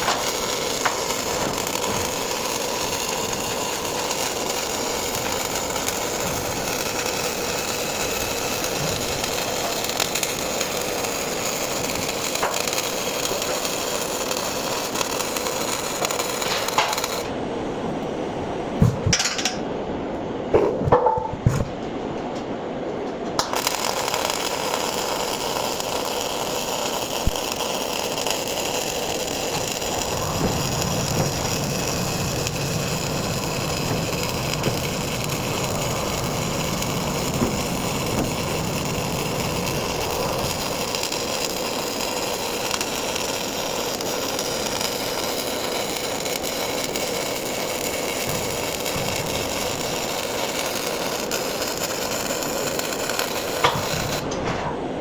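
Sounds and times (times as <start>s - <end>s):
welding arc crackling hiss: 0.0s - 17.4s, 23.3s - 54.4s.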